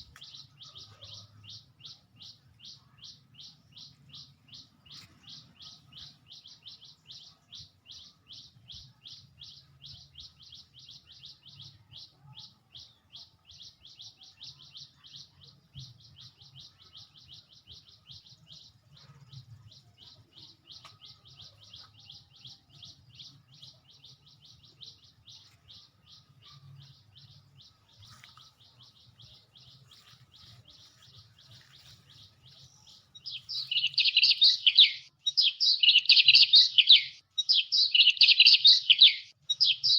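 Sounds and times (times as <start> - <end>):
busy bird chirping: 0.0 - 39.9
small songbird chirping: 0.0 - 39.9.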